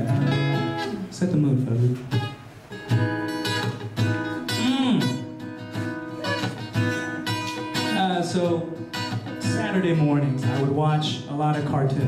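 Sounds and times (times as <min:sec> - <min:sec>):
acoustic guitar strummed slowly: 0:00.0 - 0:12.0.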